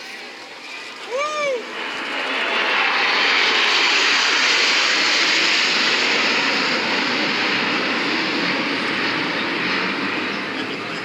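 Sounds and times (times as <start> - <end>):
jet fighters roaring past: 0.1 - 11.0.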